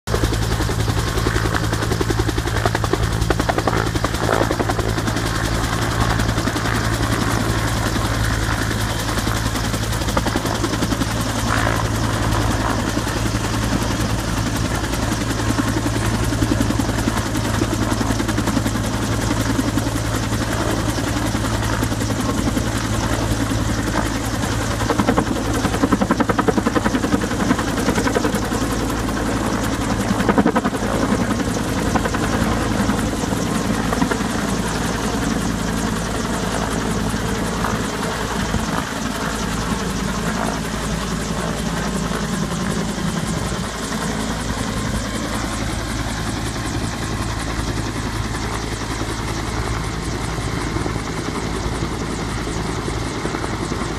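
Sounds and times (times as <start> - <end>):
helicopter rotor beating: 0.1 - 53.9.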